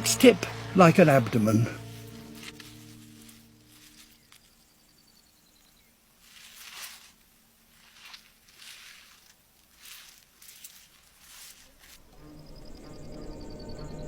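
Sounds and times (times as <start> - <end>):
faint music: 0.0 - 14.0
scuffing on stony ground: 0.5 - 12.2.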